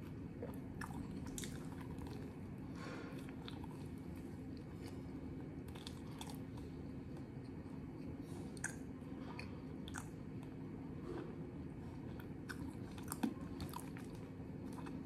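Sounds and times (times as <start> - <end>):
steady low hum: 0.0 - 15.0
person chewing: 0.2 - 15.0.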